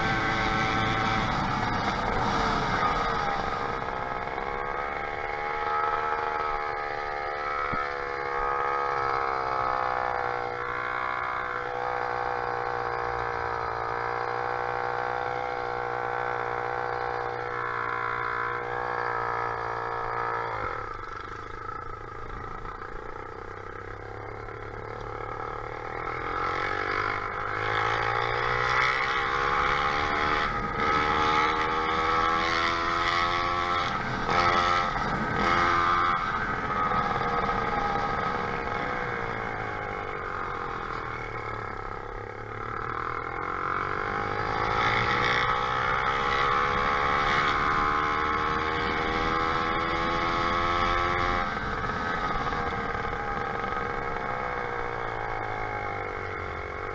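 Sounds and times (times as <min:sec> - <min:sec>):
small motorbike engine running: 0:00.0 - 0:56.9.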